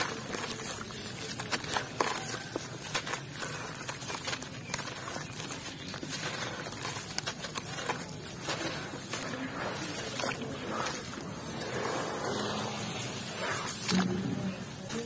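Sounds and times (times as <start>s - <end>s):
crumbs pattering into plastic basin: 0.0s - 15.0s
hands crumbling dry concrete: 0.0s - 15.0s.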